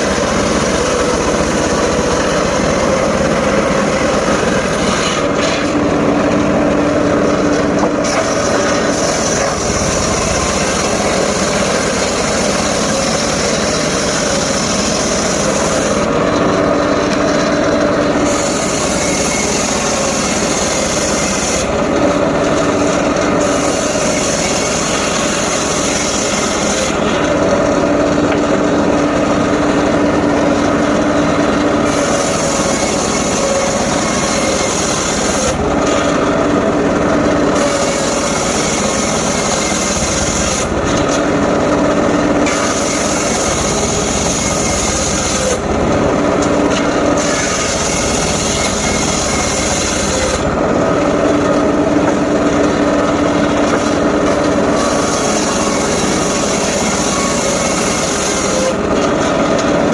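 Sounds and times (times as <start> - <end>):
circular saw cutting wood: 0.0 - 59.9.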